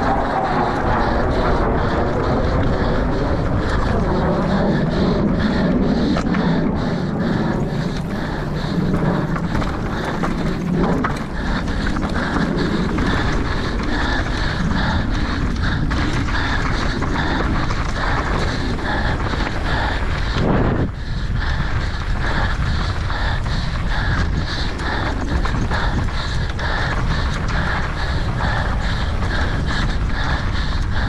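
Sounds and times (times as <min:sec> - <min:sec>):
bike rolling over rough trail: 0:00.0 - 0:31.0
heavy panting: 0:00.0 - 0:31.0
wind noise on microphone: 0:00.0 - 0:31.0.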